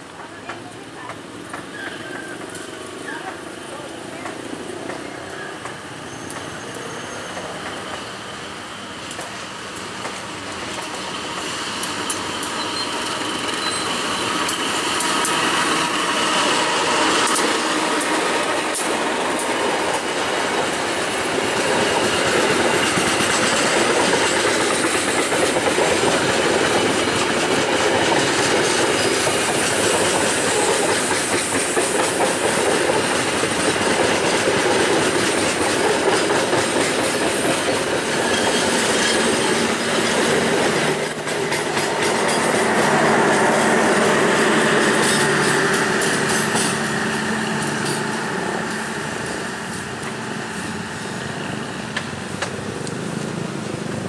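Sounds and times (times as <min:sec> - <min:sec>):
train wheels clacking on rails: 0:00.0 - 0:54.0.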